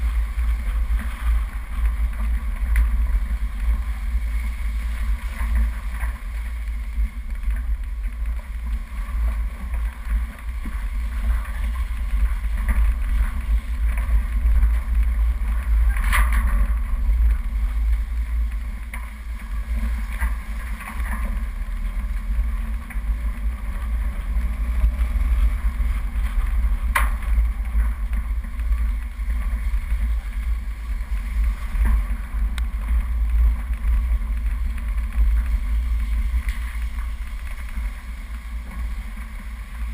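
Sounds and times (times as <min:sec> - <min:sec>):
vehicle engine rumble: 0:00.0 - 0:39.9
wind buffeting on microphone: 0:00.0 - 0:39.9.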